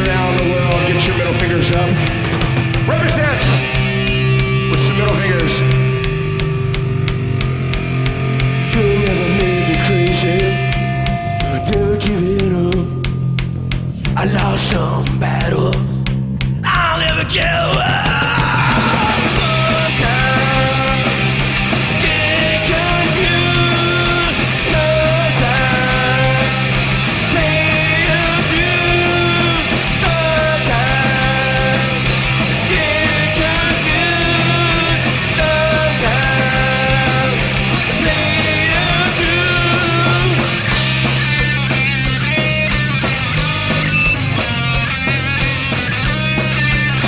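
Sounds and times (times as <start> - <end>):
bass guitar: 0.0 - 47.0
drum beat: 0.0 - 47.0
electric guitars: 0.0 - 47.0.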